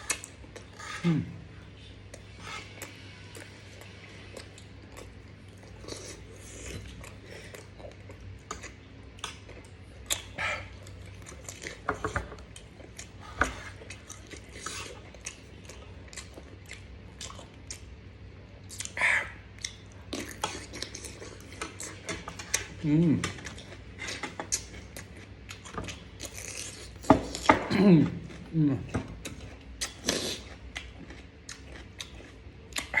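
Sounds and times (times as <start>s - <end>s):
faint low hum: 0.0s - 33.0s
chewing and mouth smacks: 2.0s - 27.7s, 28.3s - 33.0s.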